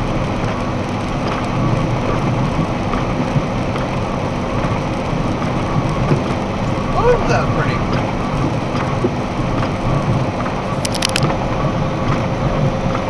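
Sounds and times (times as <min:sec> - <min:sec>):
tyre and road noise: 0:00.0 - 0:13.0.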